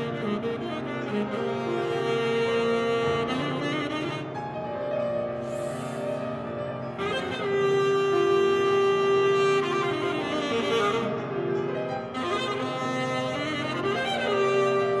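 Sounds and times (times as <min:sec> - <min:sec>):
alto saxophone: 0:00.0 - 0:15.0
piano accompaniment: 0:00.0 - 0:15.0.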